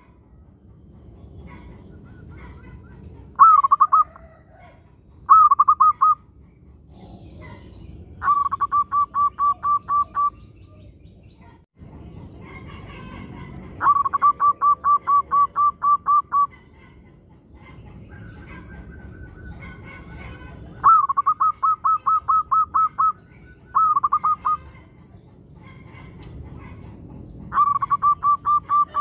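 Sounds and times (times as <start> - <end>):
dove cooing in staccato notes: 0.0 - 10.3, 11.9 - 29.0.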